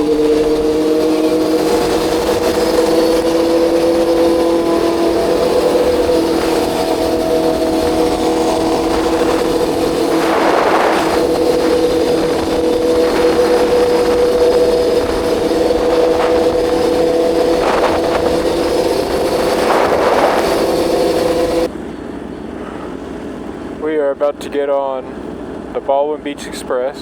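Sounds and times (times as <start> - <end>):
wind rushing: 0.0 - 21.7
motorcycle engine cruising: 0.0 - 26.4.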